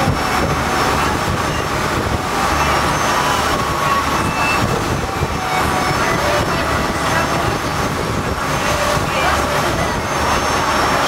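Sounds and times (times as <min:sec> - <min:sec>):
boat engine droning: 0:00.0 - 0:11.0
rushing water: 0:00.0 - 0:11.0
wind: 0:00.0 - 0:11.0.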